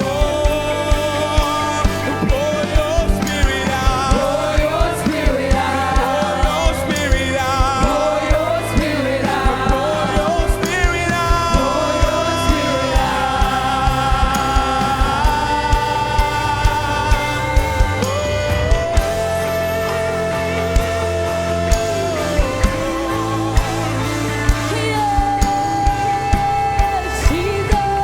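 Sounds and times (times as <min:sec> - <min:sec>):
band with steady drum beat: 0:00.0 - 0:28.0
voices singing gospel: 0:00.0 - 0:28.0.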